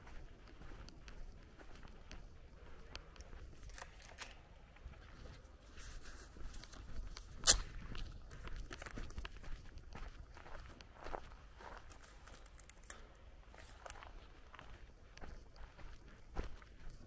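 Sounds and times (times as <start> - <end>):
footsteps on dirt road: 0.0 - 17.0
outdoor background noise: 0.0 - 17.0.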